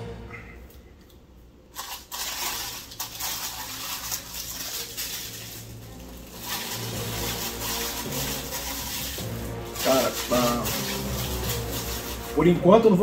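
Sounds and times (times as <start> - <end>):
plastic packaging crinkling: 1.7 - 12.6.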